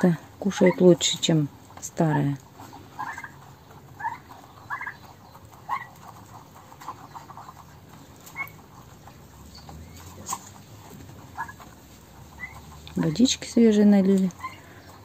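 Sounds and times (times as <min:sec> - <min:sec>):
turkeys chirping: 0:00.0 - 0:15.0.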